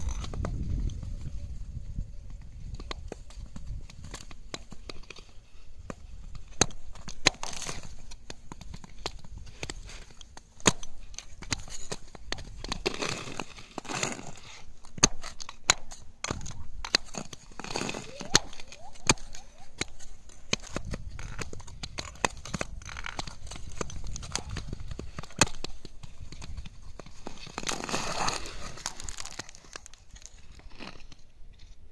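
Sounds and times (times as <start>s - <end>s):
lake ice ticking and popping: 2.4s - 31.3s
ice skates scraping on ice: 2.7s - 31.8s.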